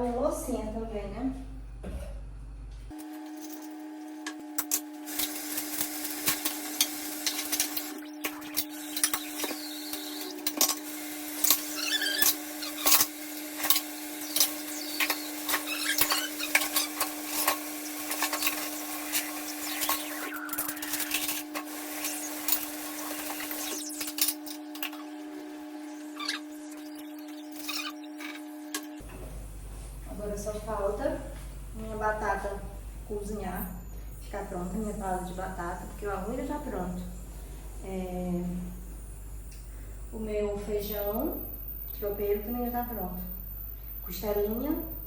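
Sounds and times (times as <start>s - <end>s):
steady hum: 0.0s - 45.0s.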